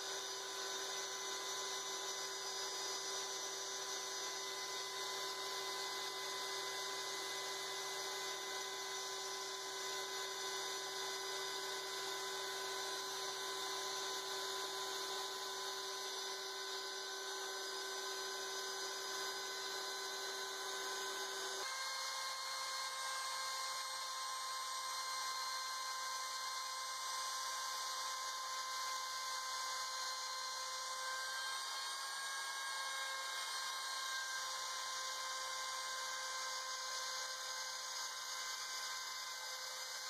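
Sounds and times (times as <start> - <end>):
cnc router spindle whine: 0.0 - 40.0.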